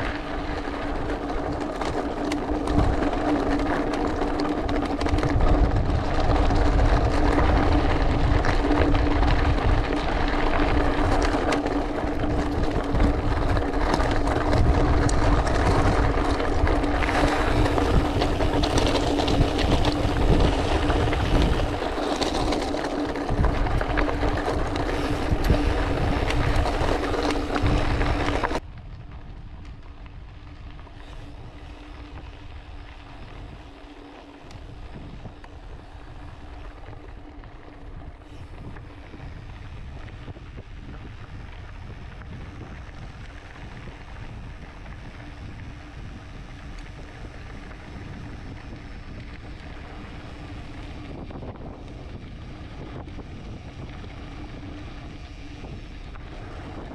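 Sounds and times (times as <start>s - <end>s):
bike tyres rolling on gravel: 0.0s - 56.9s
steady low hum: 0.0s - 56.9s
wind buffeting microphone: 0.0s - 56.9s.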